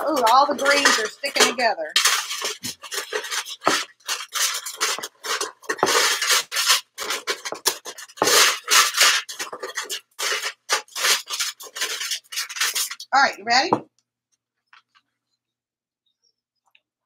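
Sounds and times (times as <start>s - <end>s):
craft sticks rattling in metal pail: 0.0s - 13.8s.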